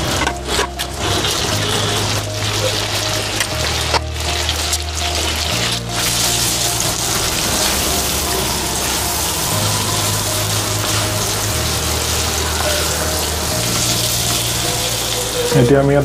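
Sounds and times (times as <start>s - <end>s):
food frying in oil: 0.0s - 15.6s
wooden spatula stirring: 0.0s - 15.7s.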